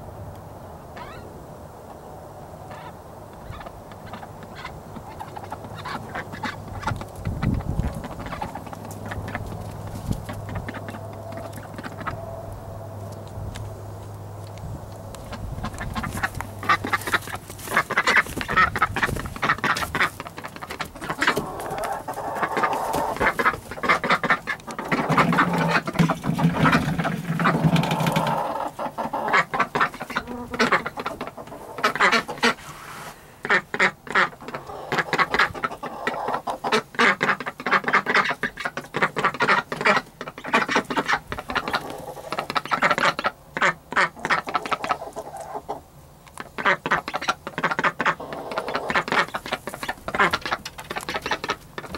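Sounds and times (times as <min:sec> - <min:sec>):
ducks quacking: 0:02.7 - 0:12.6, 0:15.2 - 0:45.8, 0:46.4 - 0:51.9.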